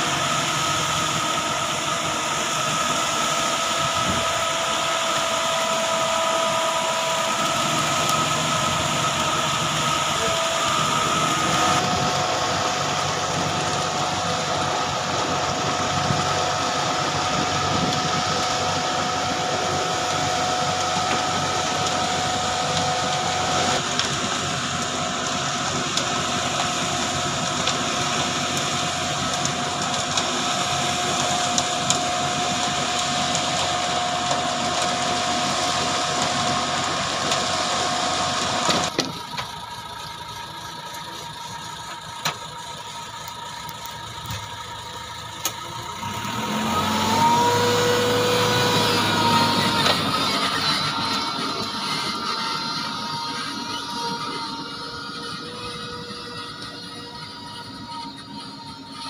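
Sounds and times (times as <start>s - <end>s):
concrete mixer truck running: 0.0s - 59.0s
whining tones: 0.0s - 59.0s.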